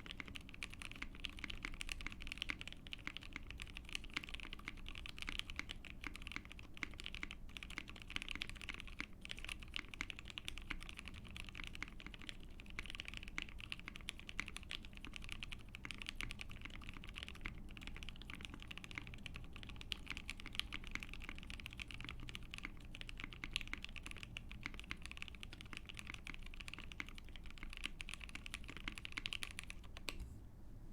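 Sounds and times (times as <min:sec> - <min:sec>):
mechanical keyboard typing: 0:00.0 - 0:30.2.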